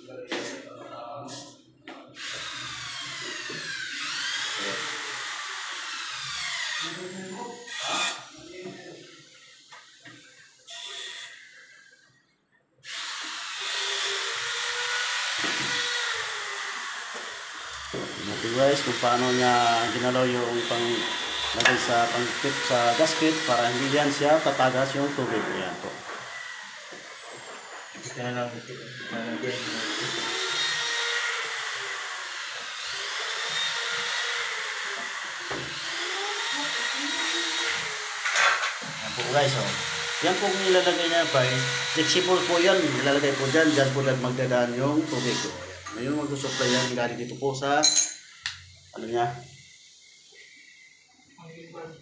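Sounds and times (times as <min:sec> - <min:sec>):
electric motor whirring: 0:02.2 - 0:08.3, 0:09.6 - 0:11.9, 0:12.9 - 0:47.5.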